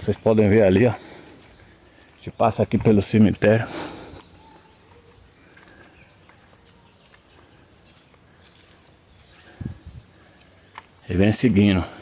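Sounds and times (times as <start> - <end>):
faint bird chirps: 0.0 - 12.0
faint forest ambience: 0.0 - 12.0.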